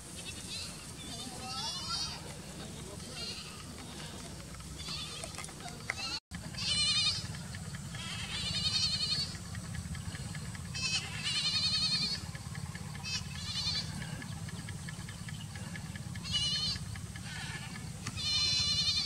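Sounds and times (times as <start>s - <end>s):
steady low hum: 0.0s - 19.0s
goats bleating: 0.1s - 14.7s, 15.5s - 19.0s.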